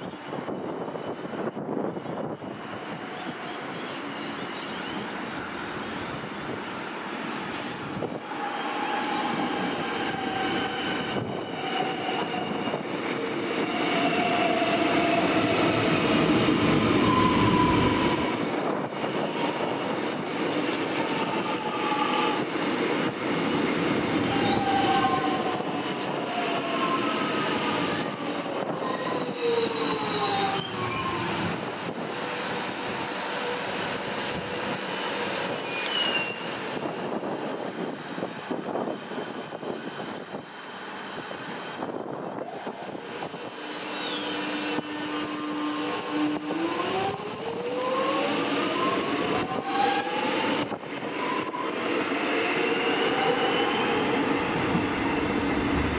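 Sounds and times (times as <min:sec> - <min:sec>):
electric train rumbling: 0:00.0 - 0:55.9.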